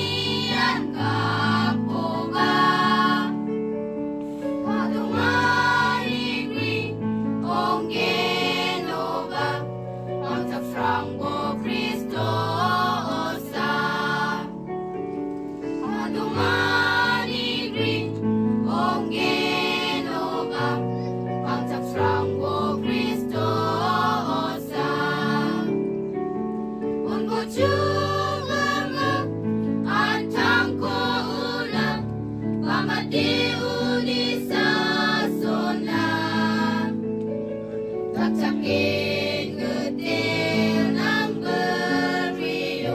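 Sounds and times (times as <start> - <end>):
choir singing slow song: 0.0 - 14.9, 15.5 - 26.2, 26.8 - 37.1, 37.9 - 42.9.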